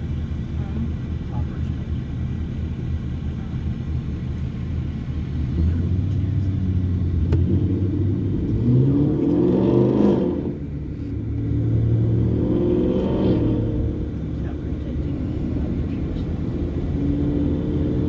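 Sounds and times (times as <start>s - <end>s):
car engine: 0.0s - 18.0s
road noise inside car: 0.0s - 18.0s.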